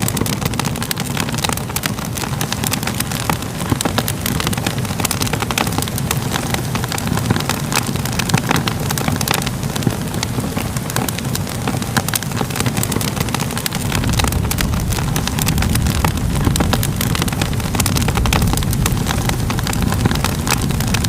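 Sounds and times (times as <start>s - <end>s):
fire flames rumbling: 0.0s - 21.0s
fire pops and snaps: 0.0s - 21.0s.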